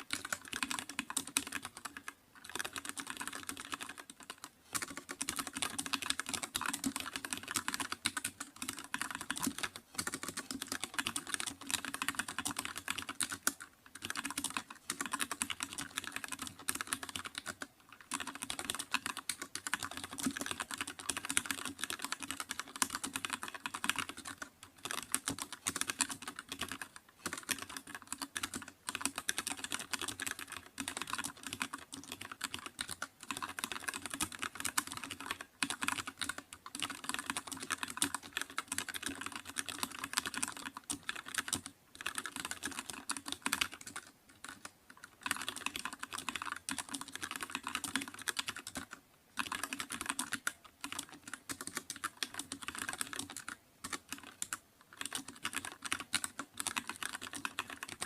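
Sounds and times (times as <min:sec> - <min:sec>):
keyboard typing: 0:00.0 - 0:58.0.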